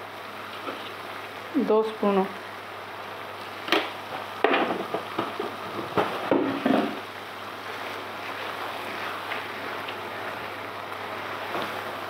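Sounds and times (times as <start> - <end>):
food hissing on gas flame: 0.0 - 12.0.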